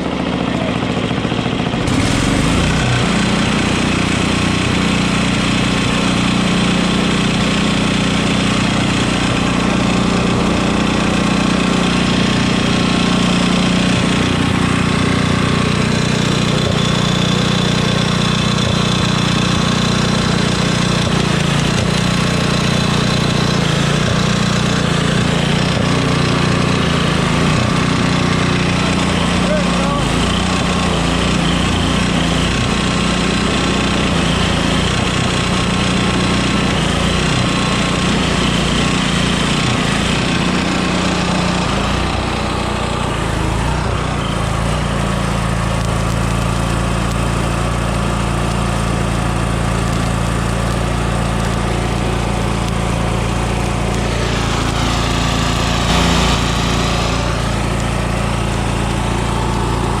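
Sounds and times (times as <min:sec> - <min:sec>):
generator engine running: 0:00.0 - 1:00.0.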